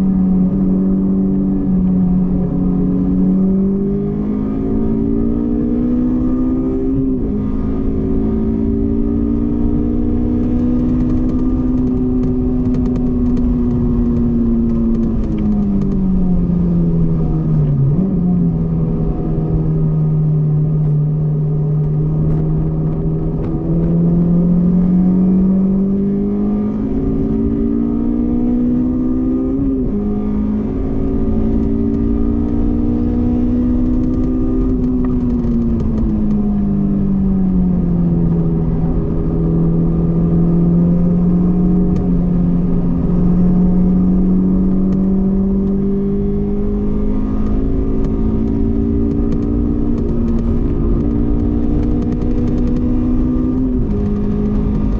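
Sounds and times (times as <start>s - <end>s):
car engine revving and shifting: 0.0s - 54.9s.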